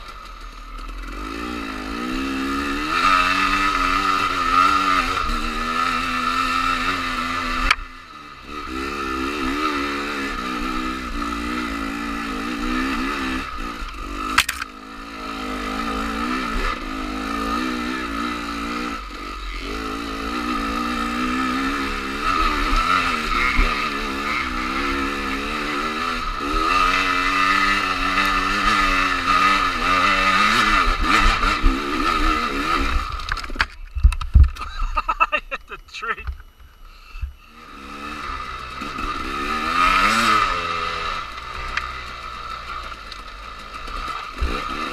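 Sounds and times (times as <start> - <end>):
dirt bike engine revving: 0.0 - 33.8, 34.6 - 36.3, 37.0 - 44.9.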